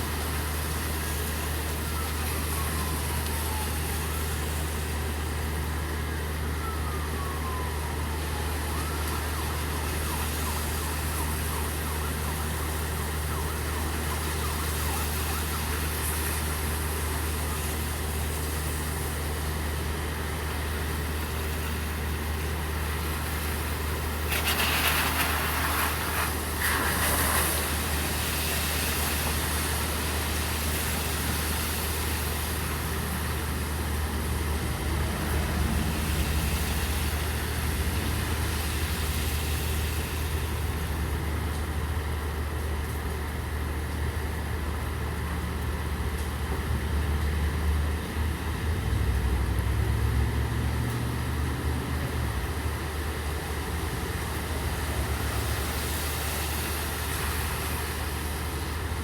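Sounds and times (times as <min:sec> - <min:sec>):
car passing through water: 0:00.0 - 0:19.6, 0:20.6 - 0:43.7, 0:44.3 - 0:59.0
distant siren wailing: 0:00.0 - 0:50.4
low engine hum: 0:00.0 - 0:59.0
steady rain: 0:00.0 - 0:59.0.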